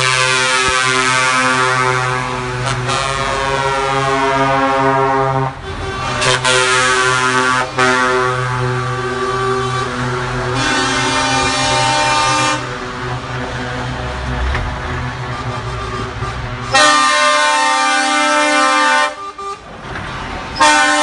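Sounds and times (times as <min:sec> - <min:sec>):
truck air horns blasting: 0:00.0 - 0:19.8, 0:20.5 - 0:21.0
trucks driving past: 0:00.0 - 0:21.0.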